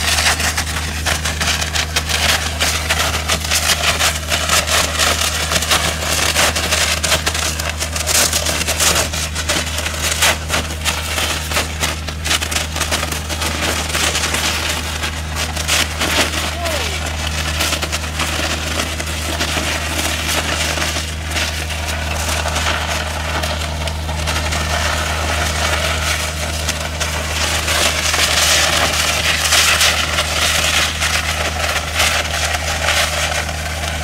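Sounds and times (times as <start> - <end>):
low machine drone: 0.0 - 34.0
water jet blasting concrete: 0.0 - 34.0.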